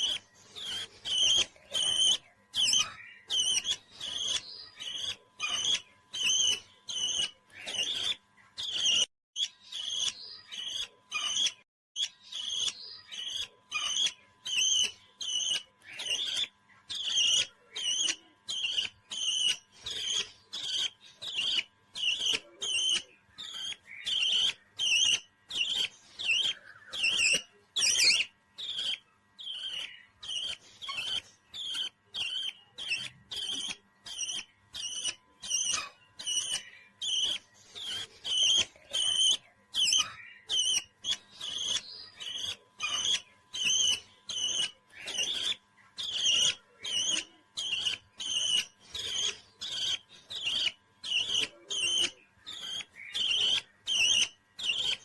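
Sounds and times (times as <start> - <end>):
parrot chirping: 0.0 - 55.0.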